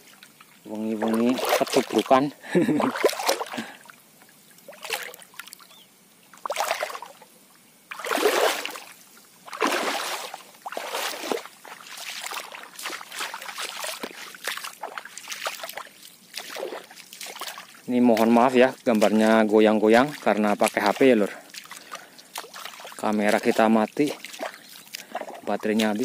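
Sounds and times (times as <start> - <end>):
water sloshing from wading: 0.0 - 26.0.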